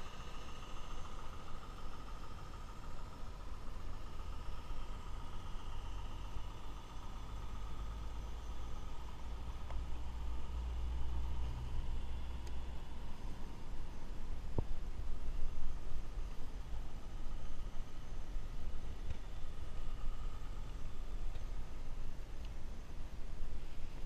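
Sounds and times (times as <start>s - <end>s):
model locomotive whine: 0.0s - 24.0s.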